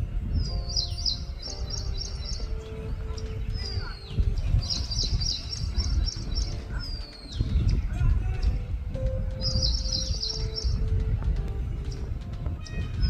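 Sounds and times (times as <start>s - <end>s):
small birds twittering: 0.0s - 13.0s
steady low rumble: 0.0s - 13.0s.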